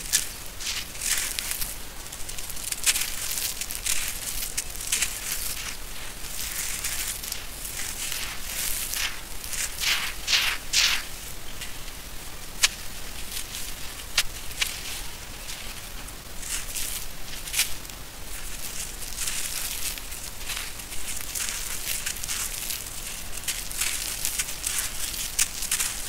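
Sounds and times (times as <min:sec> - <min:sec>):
sand mix crunching and trickling: 0:00.0 - 0:26.0.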